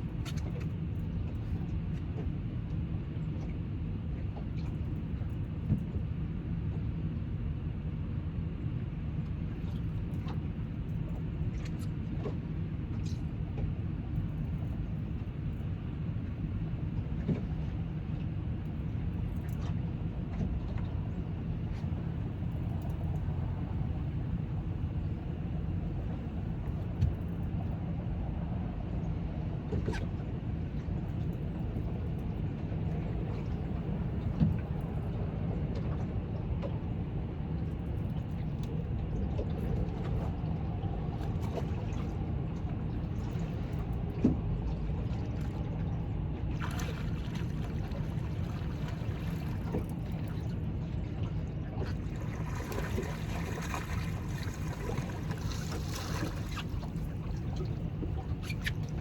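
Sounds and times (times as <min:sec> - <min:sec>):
water sloshing against hull: 0:00.0 - 0:06.0, 0:09.3 - 0:59.0
wind: 0:00.0 - 0:59.0
flowing river water: 0:09.6 - 0:28.6, 0:29.6 - 0:59.0.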